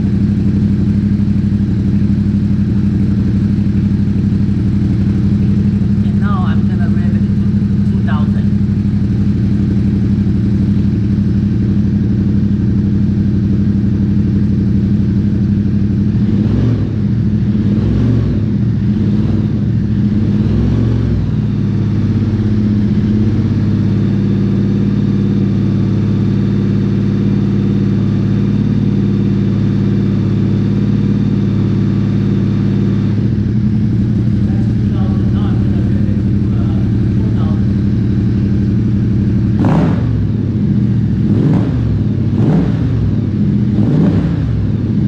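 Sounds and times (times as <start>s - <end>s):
loud motorcycle engine revving: 0.0s - 45.0s.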